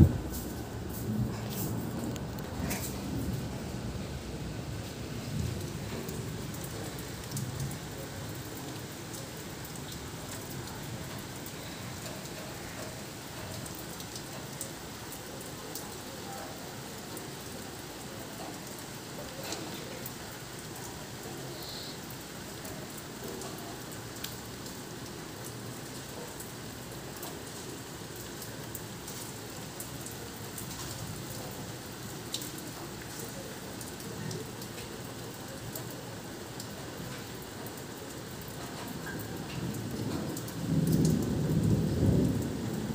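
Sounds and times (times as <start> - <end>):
raindrops ticking on surfaces: 0.0 - 42.9
steady rain hiss: 0.0 - 42.9.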